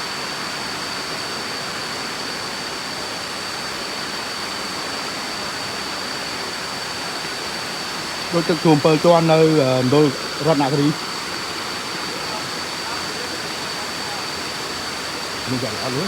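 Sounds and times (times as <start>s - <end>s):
high-pitched whine: 0.0s - 16.0s
waterfall roaring: 0.0s - 16.0s.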